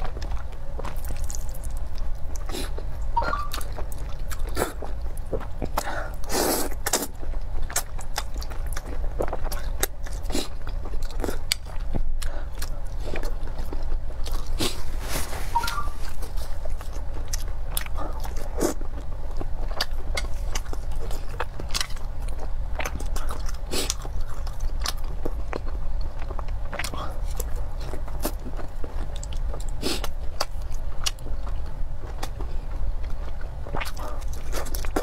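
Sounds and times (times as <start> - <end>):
wet chewing and biting: 0.0 - 35.0.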